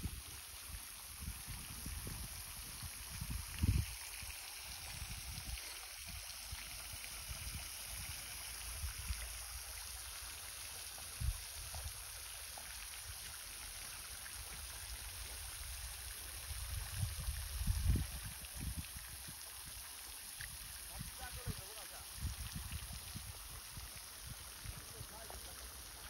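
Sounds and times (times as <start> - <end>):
fountain spray splashing on water: 0.0 - 26.0.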